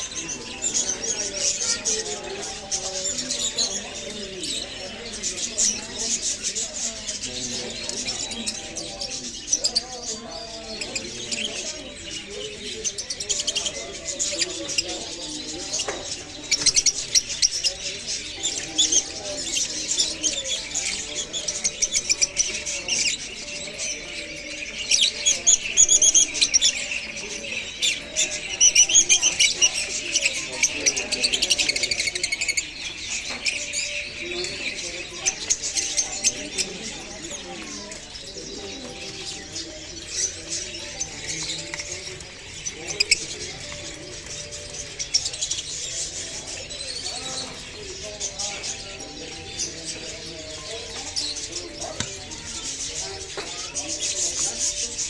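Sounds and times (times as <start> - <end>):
parrots chirping and squawking: 0.0 - 55.0.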